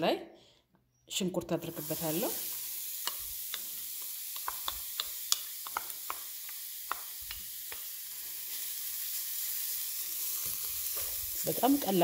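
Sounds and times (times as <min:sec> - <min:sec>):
onion sizzling in a frying pan: 0:01.6 - 0:12.0.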